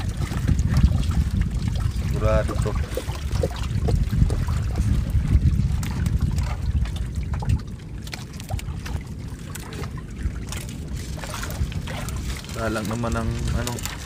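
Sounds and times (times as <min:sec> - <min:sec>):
low rumble: 0:00.0 - 0:14.0
water trickling and splashing: 0:00.0 - 0:14.0.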